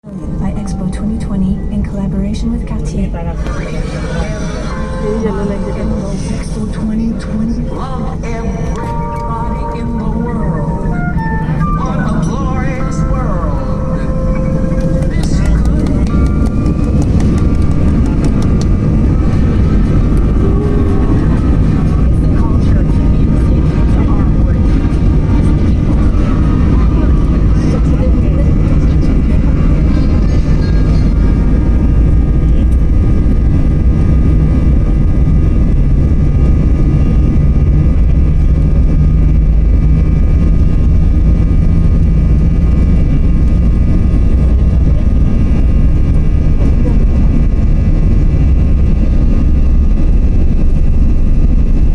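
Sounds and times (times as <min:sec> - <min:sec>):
faint jet engine whine: 0:00.0 - 0:51.9
jet engines rumbling: 0:00.0 - 0:51.9.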